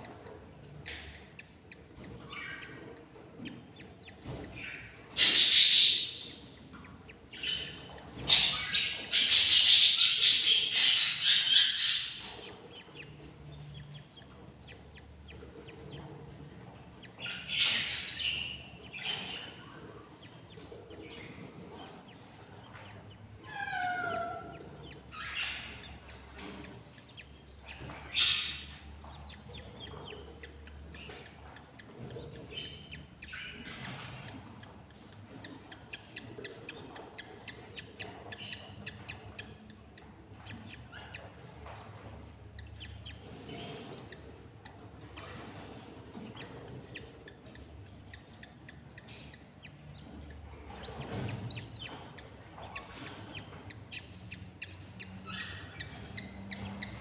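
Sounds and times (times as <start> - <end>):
budgerigars chirping and squawking: 0.0 - 57.0.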